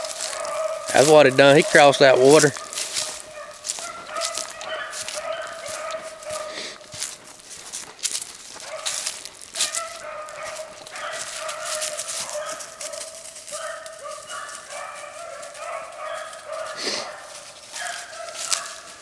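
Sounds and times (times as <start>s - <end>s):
dogs baying and yelping: 0.0s - 19.0s.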